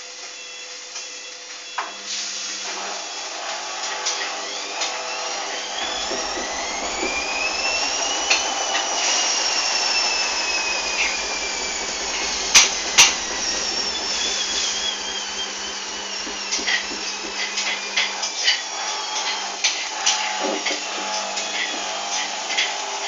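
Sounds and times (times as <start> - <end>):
washing machine motor whining: 0.0 - 23.0.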